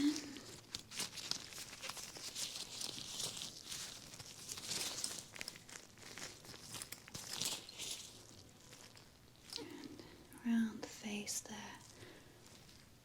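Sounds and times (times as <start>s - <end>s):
gloved hands rubbing and crinkling: 0.0s - 10.2s, 10.9s - 13.0s.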